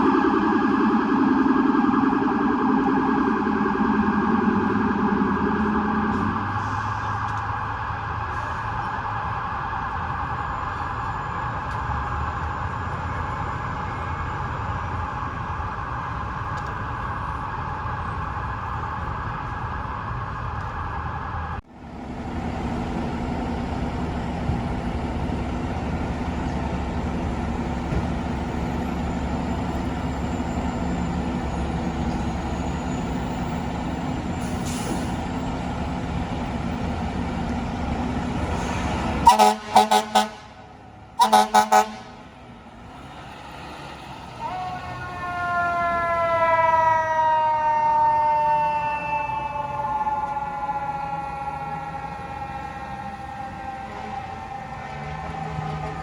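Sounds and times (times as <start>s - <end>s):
diesel engine running: 0.0s - 46.2s, 49.3s - 56.0s
truck engine hum: 0.0s - 56.0s.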